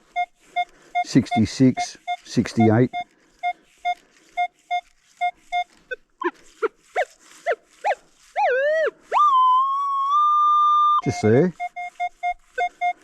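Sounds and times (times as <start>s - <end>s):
metal detector tones: 0.0s - 6.4s, 7.0s - 13.0s.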